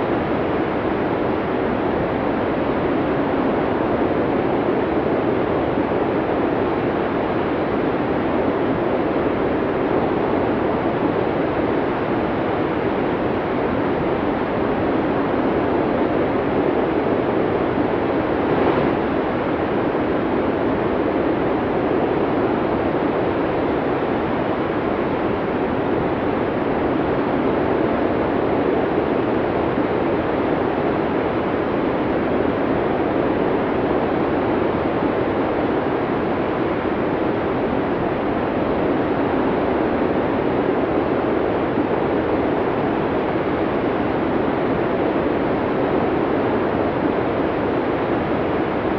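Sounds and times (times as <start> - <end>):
snowstorm wind blowing: 0.1 - 48.9.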